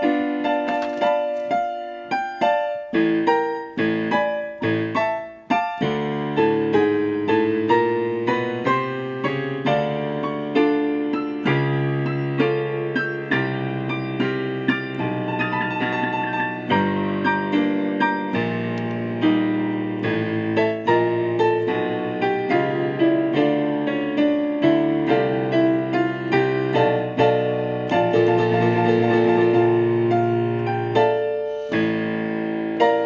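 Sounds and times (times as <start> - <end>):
gentle solo piano piece: 0.0 - 33.0.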